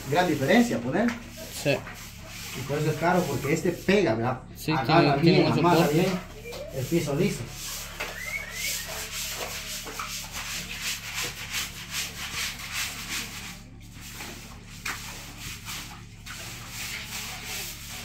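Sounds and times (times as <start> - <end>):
scrub brush scrubbing wet concrete: 0.0 - 18.0.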